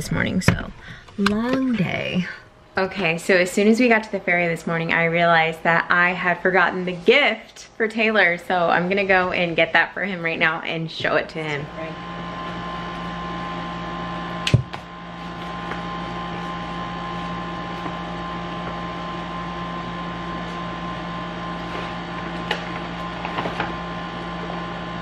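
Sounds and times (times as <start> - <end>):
electrical appliance hum: 0.0 - 25.0.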